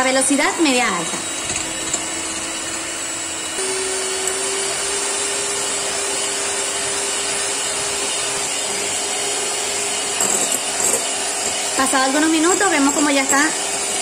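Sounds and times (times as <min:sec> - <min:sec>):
electric hand mixer whining: 0:00.0 - 0:14.0.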